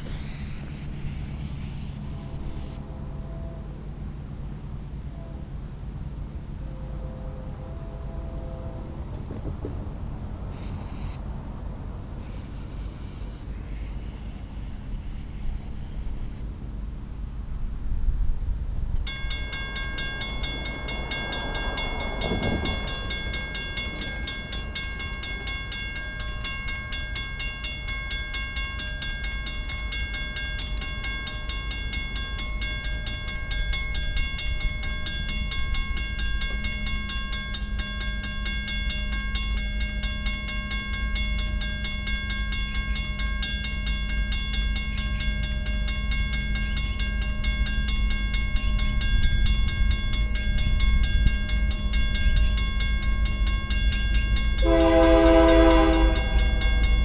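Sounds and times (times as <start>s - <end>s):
crossing bell ringing: 0.0s - 16.1s, 19.0s - 57.0s
freight train rumbling past: 0.0s - 57.0s.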